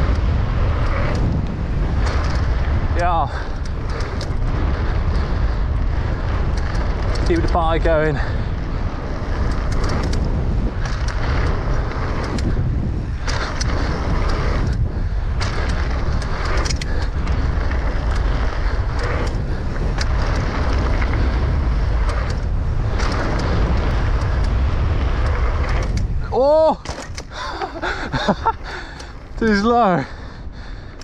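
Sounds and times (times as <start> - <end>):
tyres rolling over dirt: 0.0 - 30.2
bike clicks and rattles: 0.0 - 31.0
wind rumble on microphone: 0.0 - 31.0.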